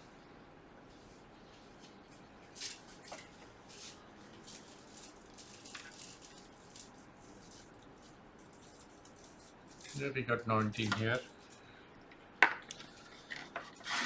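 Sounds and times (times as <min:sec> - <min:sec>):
light scratchy clicks and rustles: 0:00.8 - 0:14.0.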